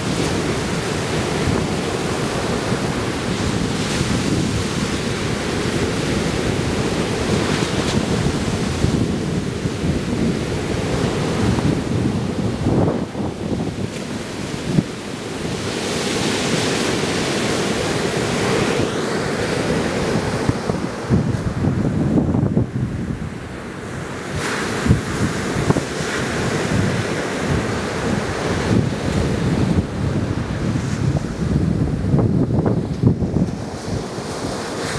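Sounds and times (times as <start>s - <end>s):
ocean surf breaking: 0.0s - 34.9s
wind rumble on microphone: 0.0s - 34.9s.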